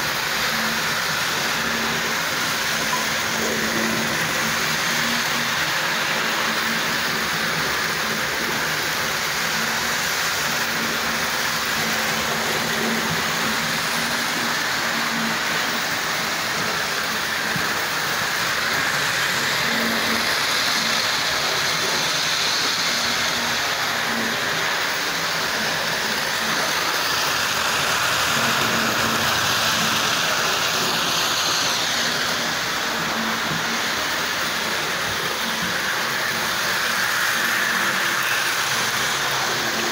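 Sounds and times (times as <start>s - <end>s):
model trains whirring and rattling: 0.0s - 39.9s.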